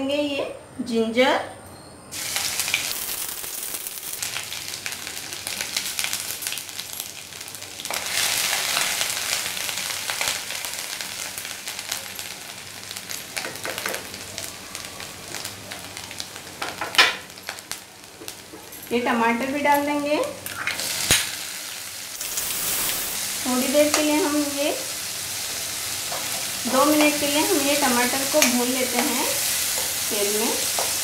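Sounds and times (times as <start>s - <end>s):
ginger sizzling in hot oil: 2.1s - 31.0s.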